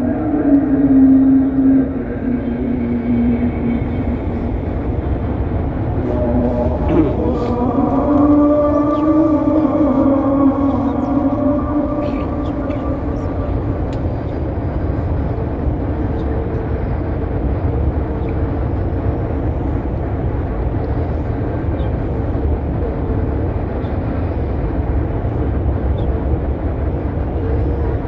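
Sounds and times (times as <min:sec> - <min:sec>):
low rumbling outdoor background: 0:00.0 - 0:28.0.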